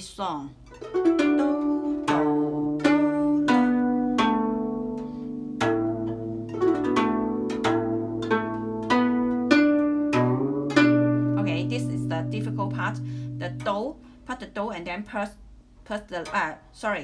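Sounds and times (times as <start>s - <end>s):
guzheng plucked notes: 0.6s - 17.0s.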